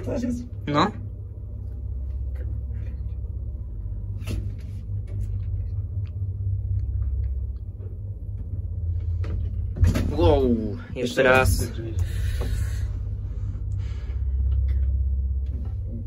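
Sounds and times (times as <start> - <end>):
elevator low rumble: 0.0 - 16.0.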